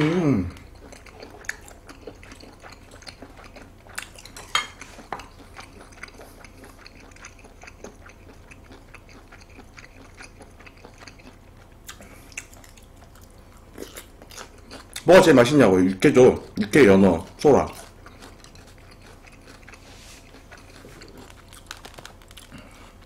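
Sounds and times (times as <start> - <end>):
close chewing: 0.5 - 23.0.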